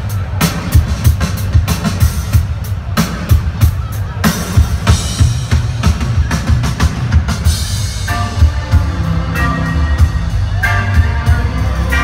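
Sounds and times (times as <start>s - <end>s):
live pop-rock band playing: 0.0s - 12.0s.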